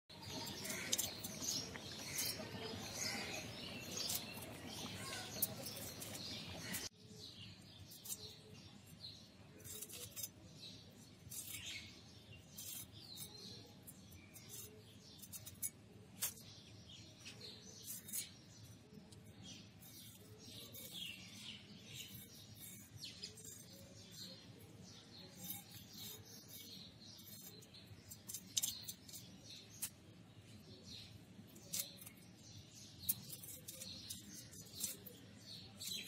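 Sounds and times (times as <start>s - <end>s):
small birds chirping: 0.1s - 36.0s.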